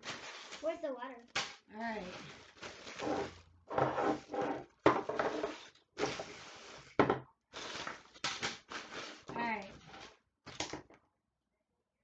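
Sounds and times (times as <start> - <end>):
plastic containers rustling and scraping: 0.0 - 10.9.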